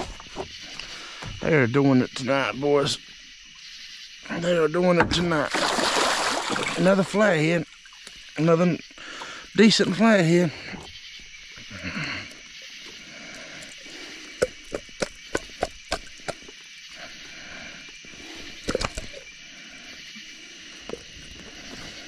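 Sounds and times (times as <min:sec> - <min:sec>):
night insects and frogs chorus: 0:00.0 - 0:22.0.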